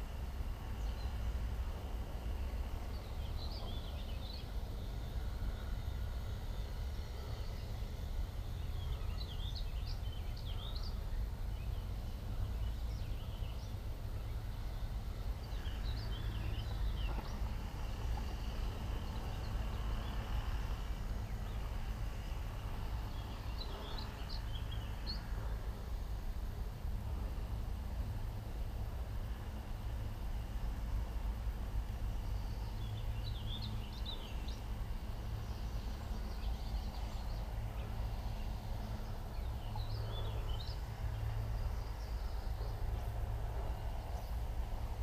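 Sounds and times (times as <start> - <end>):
songbird chirping: 0.1 - 26.2, 31.9 - 44.7.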